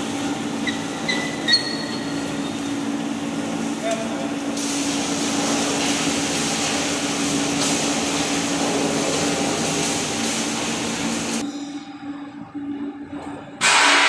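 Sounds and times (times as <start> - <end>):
motors humming: 0.0 - 11.5.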